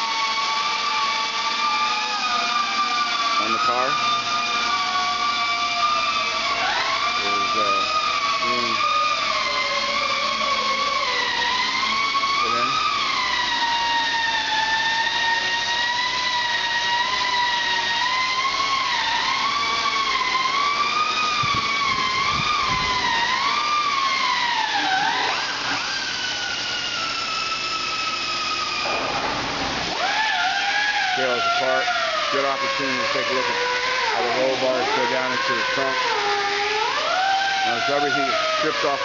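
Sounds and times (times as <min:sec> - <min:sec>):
power tool high whine: 0:00.0 - 0:39.0.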